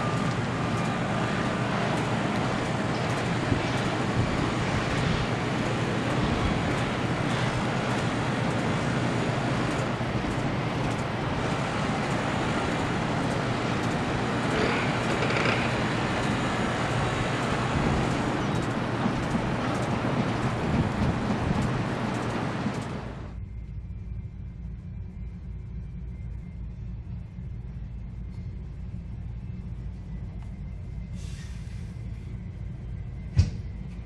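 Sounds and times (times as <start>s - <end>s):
low rumble of city traffic: 0.0s - 34.0s.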